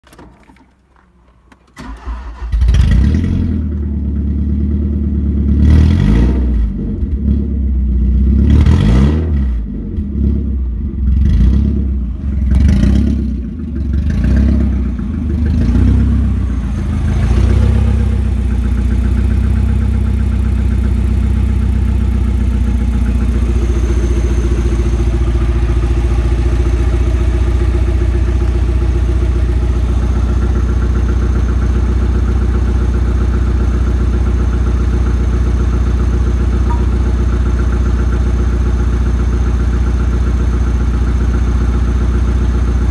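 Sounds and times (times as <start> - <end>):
car engine starting and revving: 0.1 - 7.6, 8.3 - 36.0.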